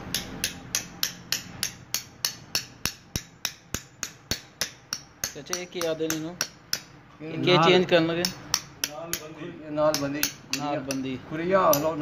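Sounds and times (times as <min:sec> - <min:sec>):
hammer tapping metal on hoof: 0:00.0 - 0:07.0, 0:07.6 - 0:12.0.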